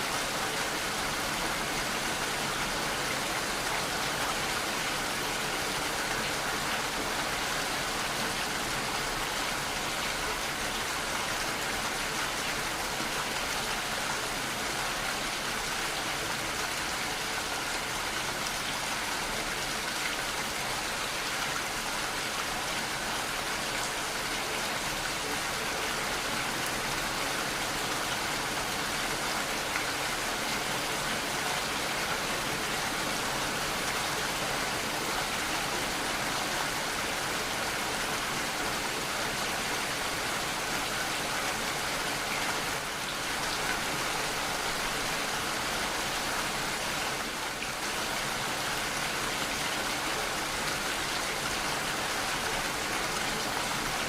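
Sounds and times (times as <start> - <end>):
steady rain hitting a surface: 0.0 - 54.0.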